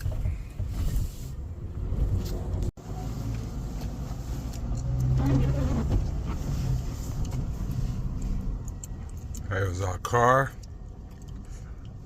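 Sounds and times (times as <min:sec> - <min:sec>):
road noise: 0:00.0 - 0:12.0
truck engine drone: 0:01.4 - 0:12.0.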